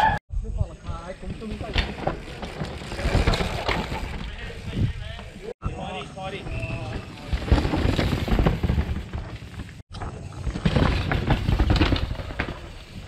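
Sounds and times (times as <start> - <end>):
mountain bikes clattering over rocks: 1.1 - 5.5, 6.4 - 13.0.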